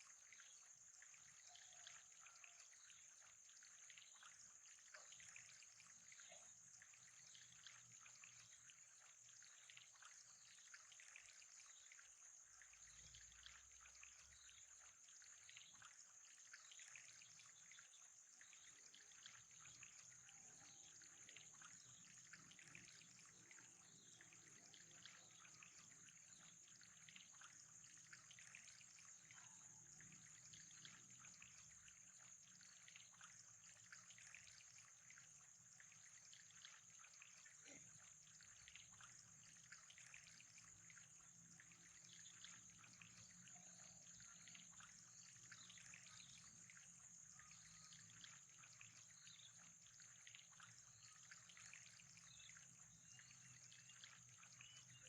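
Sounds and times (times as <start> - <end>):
trickling water drips: 0.0 - 55.0.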